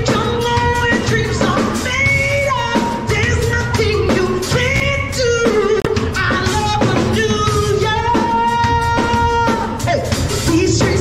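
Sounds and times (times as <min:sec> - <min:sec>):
drum kit: 0:00.0 - 0:11.0
woman singing into microphone: 0:00.0 - 0:11.0.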